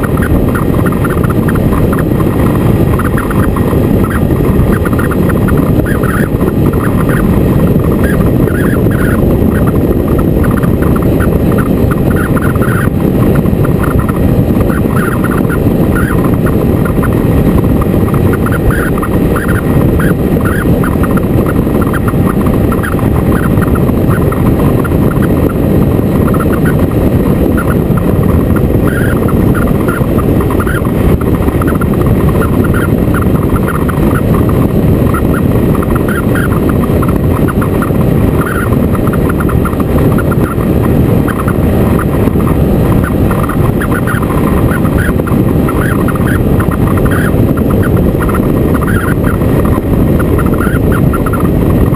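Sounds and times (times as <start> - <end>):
motorcycle engine running: 0.0 - 51.9
wind rumble on microphone: 0.0 - 51.9.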